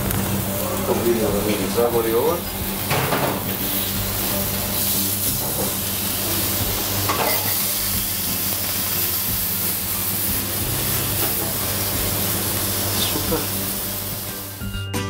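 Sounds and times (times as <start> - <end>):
chicken sizzling in grill pan: 0.0 - 14.7.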